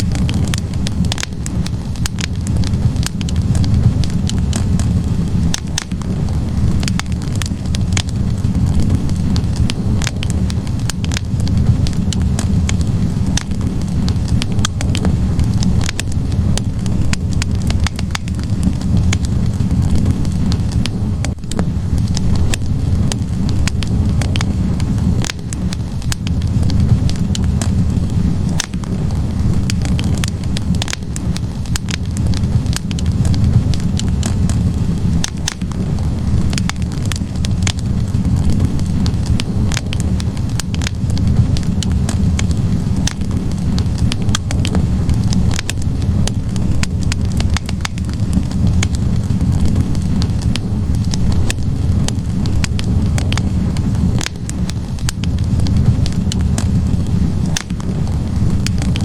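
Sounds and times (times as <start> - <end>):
logs crackling in fire: 0.0 - 59.0
low fire rumble: 0.0 - 59.0
sharp pops from fire: 0.0 - 59.0.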